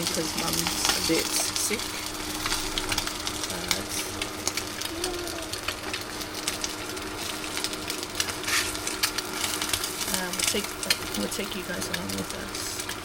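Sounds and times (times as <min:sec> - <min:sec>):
food frying in a pan: 0:00.0 - 0:13.0
steady low hum: 0:00.0 - 0:13.0.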